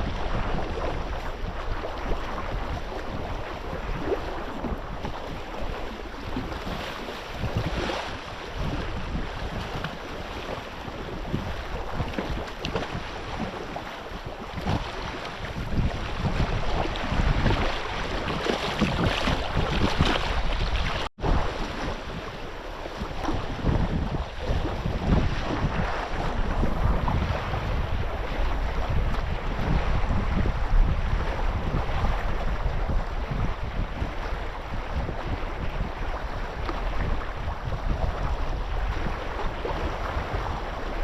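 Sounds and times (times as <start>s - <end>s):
water and waves washing: 0.0s - 41.0s
wind buffeting microphone: 0.0s - 41.0s.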